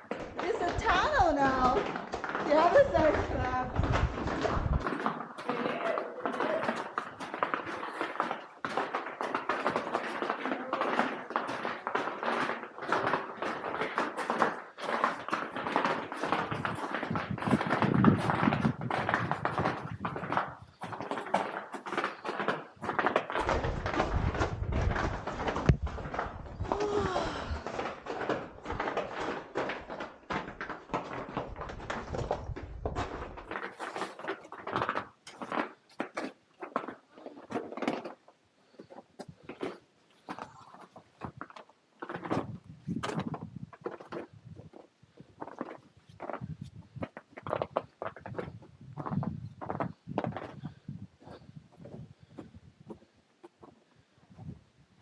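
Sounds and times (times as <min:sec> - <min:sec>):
footsteps crunching on snow: 0:00.1 - 0:53.8.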